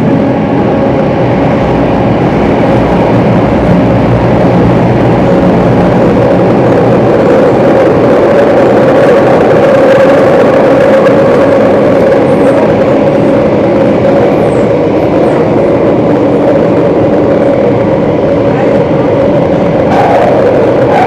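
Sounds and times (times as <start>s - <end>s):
train rumble: 0.0s - 21.0s
train whine: 0.0s - 21.0s.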